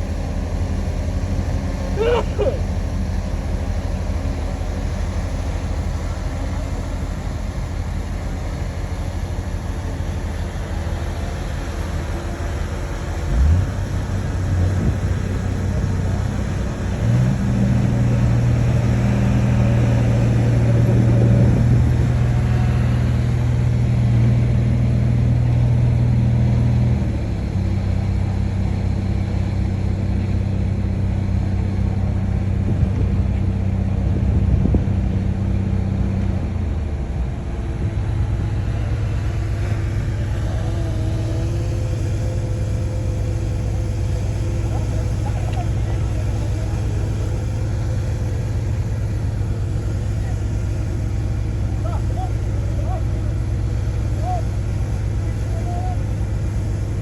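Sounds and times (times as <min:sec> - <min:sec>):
bulldozer diesel engine revving: 0:00.0 - 0:57.0.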